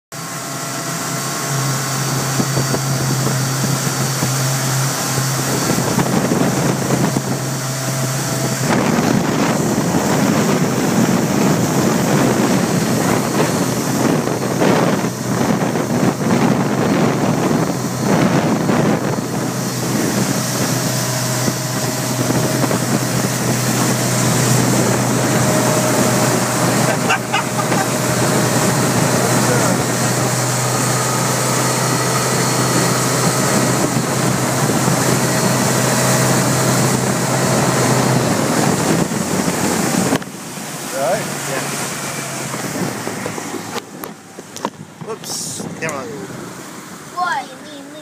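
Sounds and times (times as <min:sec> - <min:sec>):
motorboat engine droning: 0:00.1 - 0:48.0
rushing boat wake: 0:00.1 - 0:48.0
wind buffeting microphone: 0:00.2 - 0:48.0.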